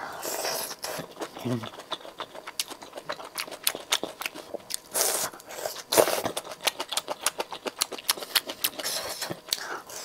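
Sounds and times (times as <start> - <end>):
person biting and chewing: 0.3 - 10.0.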